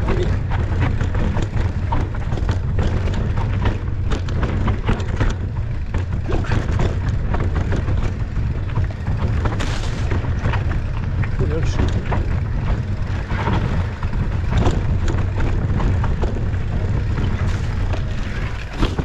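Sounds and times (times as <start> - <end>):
bike and stones clattering: 0.0 - 19.0
wind buffeting microphone: 0.0 - 19.0.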